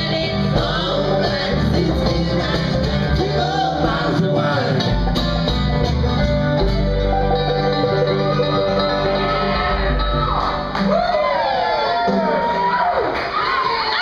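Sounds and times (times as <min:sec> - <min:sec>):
bluegrass string band playing: 0:00.0 - 0:13.8.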